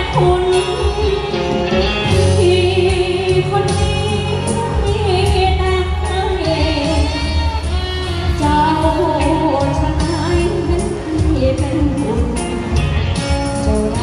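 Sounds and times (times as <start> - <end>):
amplified backing music: 0.0 - 14.0
person singing into microphone: 0.0 - 14.0.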